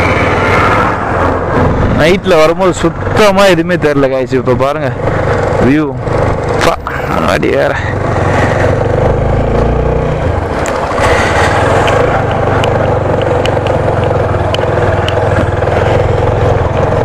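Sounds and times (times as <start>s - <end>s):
steady road noise: 0.0s - 17.0s
motorcycle engine running: 1.3s - 17.0s.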